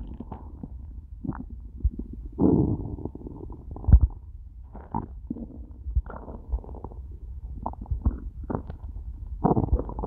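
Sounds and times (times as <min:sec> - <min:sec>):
stomach growling and gurgling: 0:00.0 - 0:10.0.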